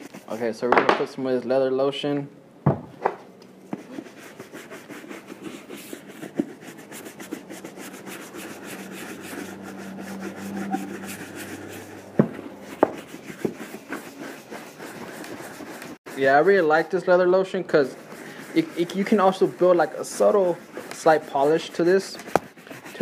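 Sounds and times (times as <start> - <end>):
brush scrubbing leather boot: 0.0 - 0.6, 3.7 - 23.0.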